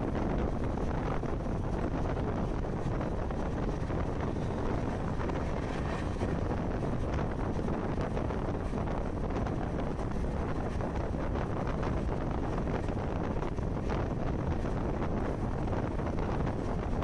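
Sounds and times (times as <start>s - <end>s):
moving train rumble: 0.0s - 17.0s
wind buffeting microphone: 0.0s - 17.0s.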